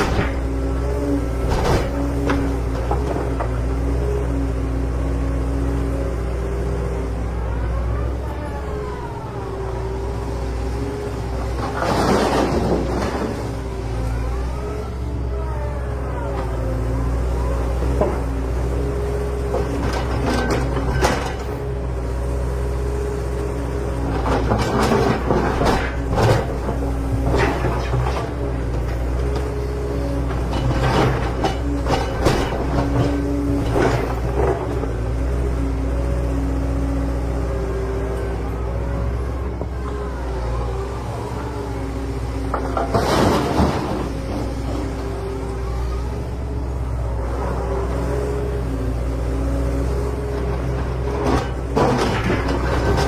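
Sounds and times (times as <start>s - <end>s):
excavator diesel engine: 0.0s - 53.0s.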